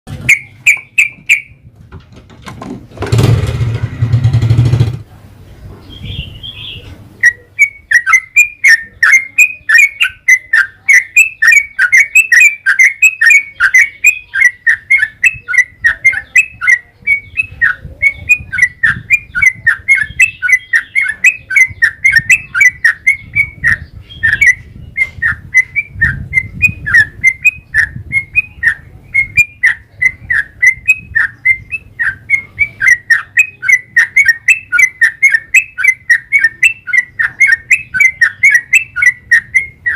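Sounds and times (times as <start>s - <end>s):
bird chirping: 0.1s - 1.7s, 5.7s - 39.9s.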